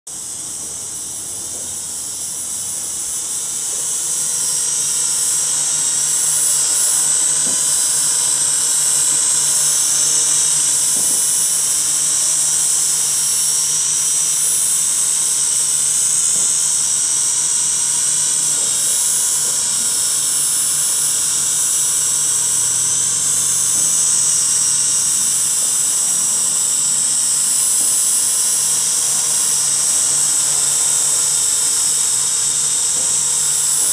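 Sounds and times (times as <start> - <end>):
drone high-pitched whine: 0.1 - 33.9.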